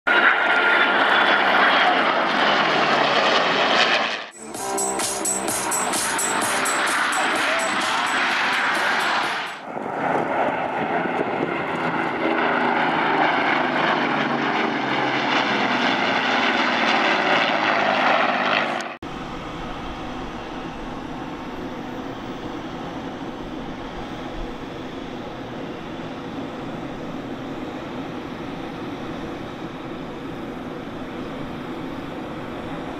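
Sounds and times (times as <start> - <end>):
jet engines droning: 0.1 - 32.9
loud jet aircraft roar: 0.1 - 32.9.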